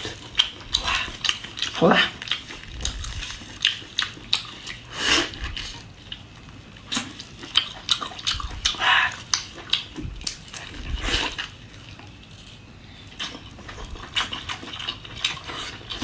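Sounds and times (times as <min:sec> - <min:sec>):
wet chewing and lip smacks: 0:00.0 - 0:16.0.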